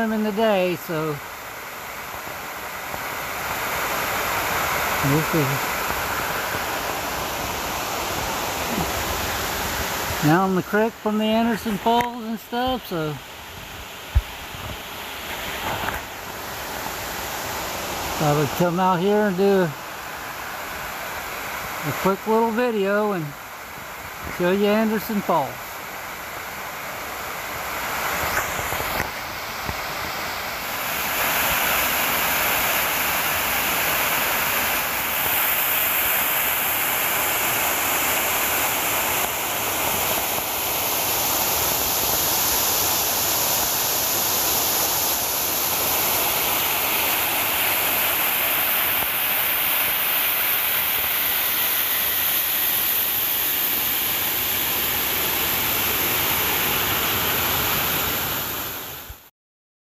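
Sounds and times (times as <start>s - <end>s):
waterfall pouring into creek: 0.0s - 59.2s.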